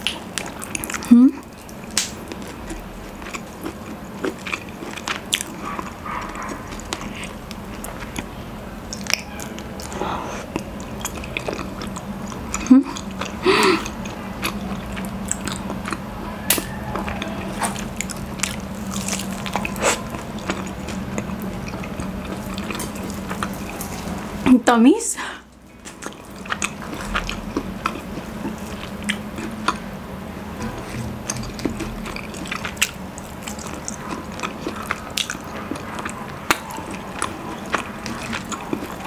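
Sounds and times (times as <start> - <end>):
chewing honeycomb: 0.0 - 24.4, 25.5 - 30.0, 30.6 - 39.0
faint steady hum: 0.0 - 39.0.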